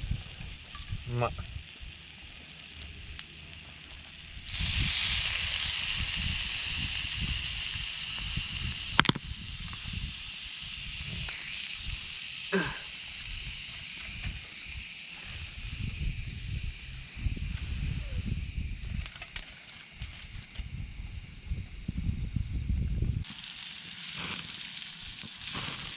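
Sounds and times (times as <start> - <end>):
meat sizzling on a griddle: 0.0 - 20.3, 23.2 - 25.9.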